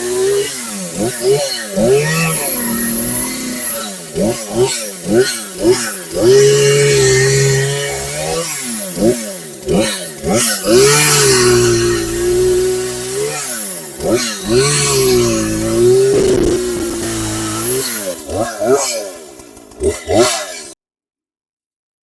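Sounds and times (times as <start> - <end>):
chainsaw revving while cutting: 0.0 - 20.8.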